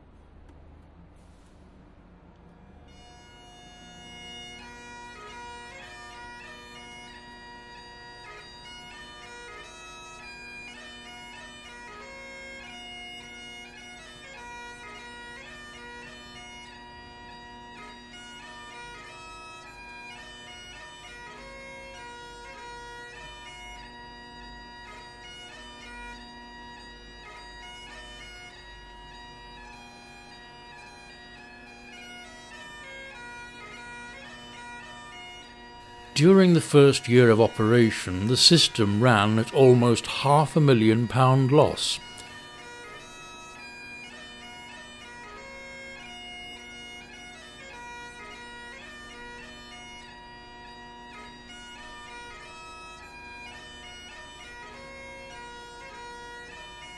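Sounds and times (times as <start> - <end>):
bagpipe playing a tune: 2.9 - 56.9.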